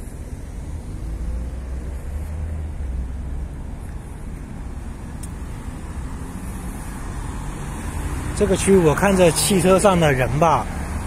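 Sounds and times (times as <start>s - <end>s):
deep rumble of passing vehicles: 0.0s - 11.0s
traffic tyres and engines: 0.0s - 11.0s.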